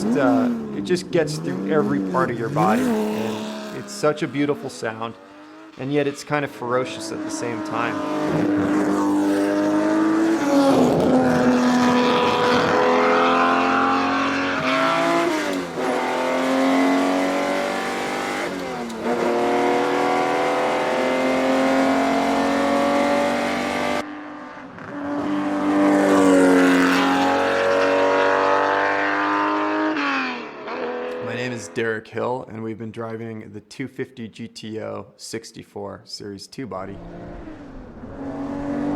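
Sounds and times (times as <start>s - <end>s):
car engine accelerating: 0.0s - 31.8s, 36.8s - 38.9s.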